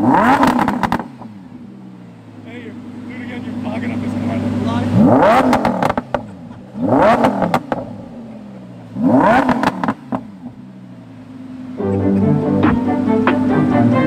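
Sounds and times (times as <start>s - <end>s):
car engine revving: 0.0s - 14.0s
exhaust crackles: 0.0s - 14.0s.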